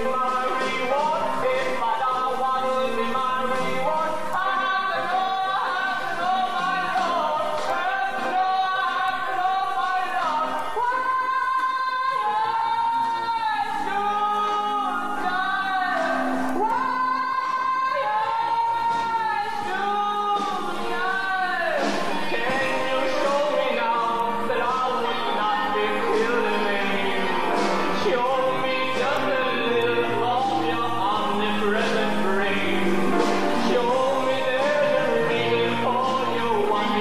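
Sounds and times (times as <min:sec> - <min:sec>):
man singing with vibrato: 0:00.0 - 0:37.0.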